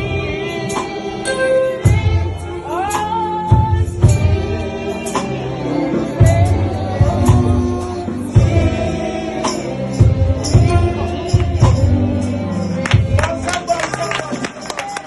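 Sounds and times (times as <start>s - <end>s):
tambourine: 0.0s - 15.0s
steady drum beat: 1.8s - 14.7s.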